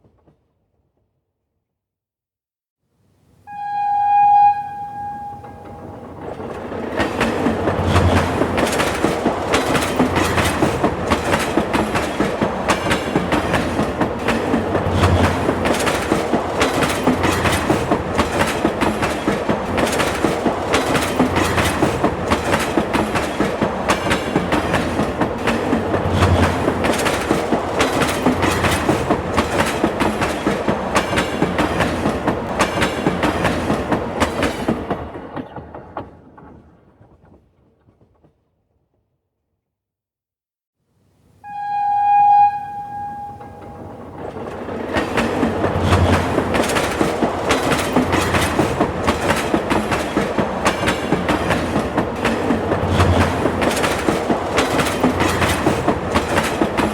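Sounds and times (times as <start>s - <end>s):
subway train rumbling: 3.5s - 38.2s, 41.5s - 56.9s
wheels clacking over rail joints: 5.5s - 38.3s, 43.4s - 56.9s.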